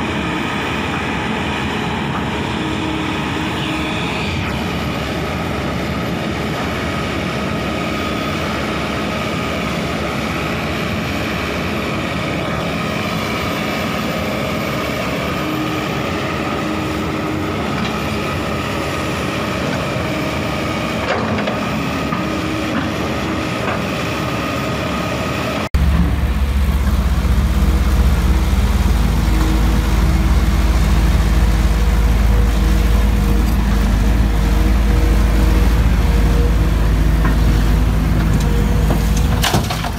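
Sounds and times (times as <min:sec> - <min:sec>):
deeper excavator diesel engine: 0:00.0 - 0:39.9
excavator diesel engine: 0:00.0 - 0:39.9.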